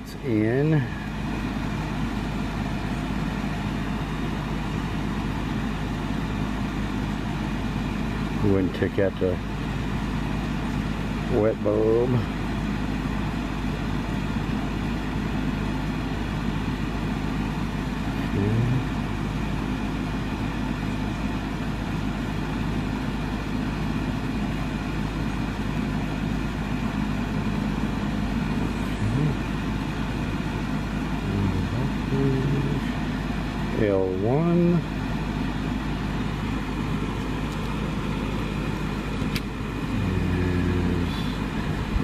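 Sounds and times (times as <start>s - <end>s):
air conditioner unit humming: 0.0s - 42.0s
fan air rush: 0.0s - 42.0s.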